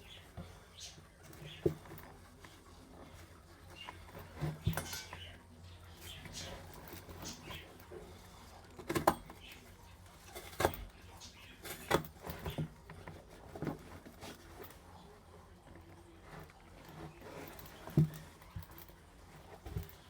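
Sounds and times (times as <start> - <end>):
handling knocks and clicks: 0.0 - 20.0
low background noise: 0.0 - 20.0.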